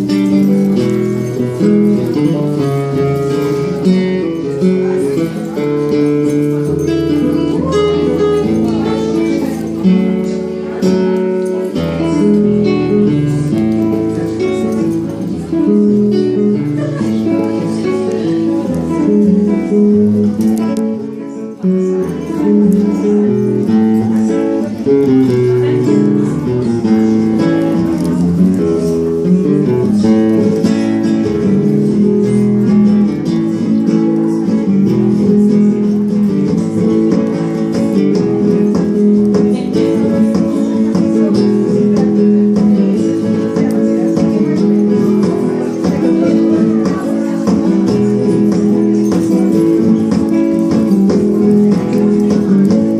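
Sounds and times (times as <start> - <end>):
acoustic guitar strumming chords: 0.0 - 52.9.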